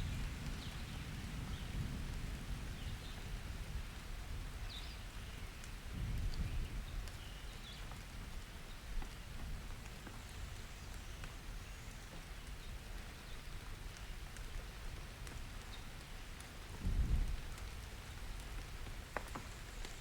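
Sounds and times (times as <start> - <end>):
soft rain: 0.0 - 20.0
rain drop ticks: 0.1 - 11.4, 12.0 - 20.0.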